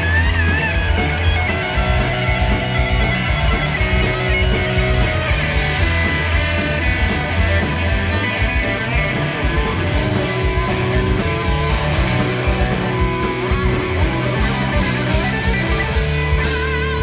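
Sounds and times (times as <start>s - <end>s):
bass guitar: 0.0s - 17.0s
distorted electric guitar: 0.0s - 17.0s
drum kit with crashing cymbals: 0.0s - 17.0s.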